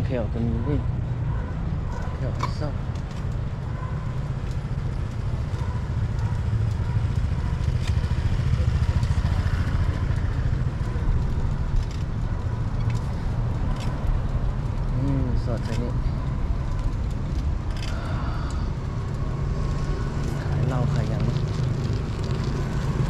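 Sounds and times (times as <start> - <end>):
motorbike engine rumbling: 1.0 - 23.0.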